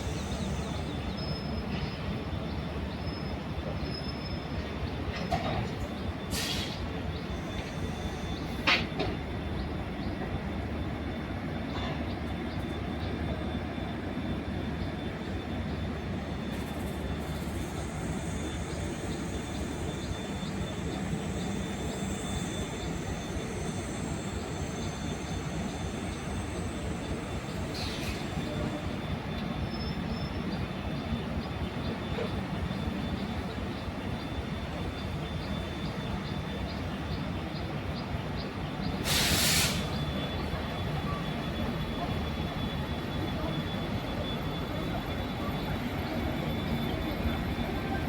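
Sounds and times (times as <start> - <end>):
rumble of rolling train coaches: 0.0 - 48.0.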